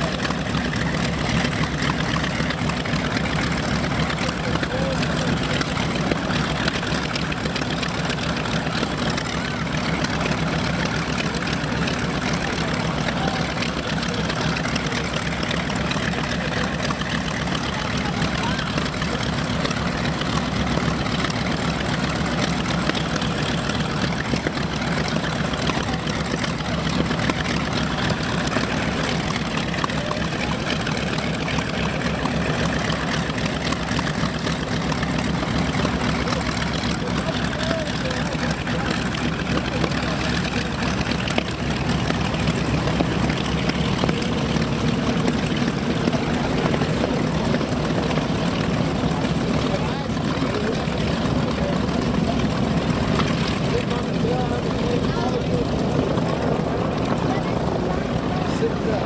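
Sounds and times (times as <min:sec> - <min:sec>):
propeller aircraft engines running: 0:00.0 - 0:59.0.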